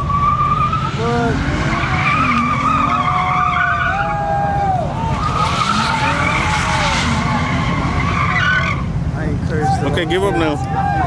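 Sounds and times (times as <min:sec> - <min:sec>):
truck tires squealing: 0:00.0 - 0:11.0.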